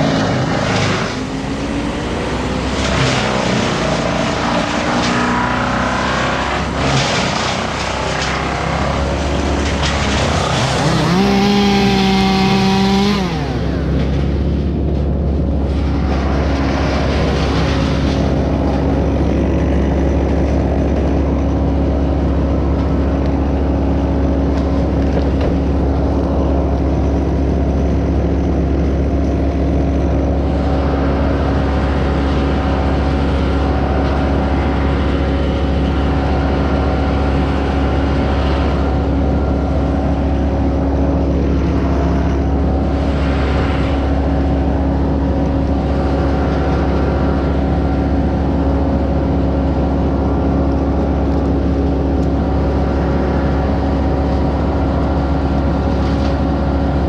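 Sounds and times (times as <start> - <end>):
engine running with low rumble: 0.0 - 57.0.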